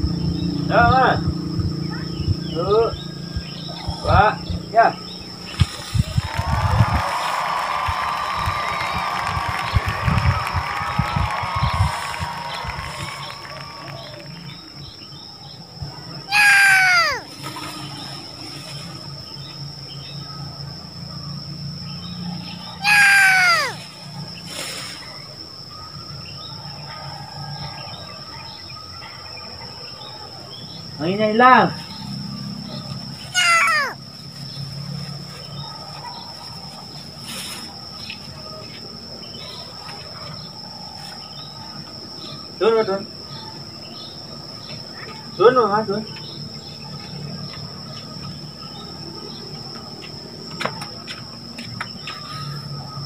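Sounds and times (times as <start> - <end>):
high-pitched insect trill: 0.0 - 50.5.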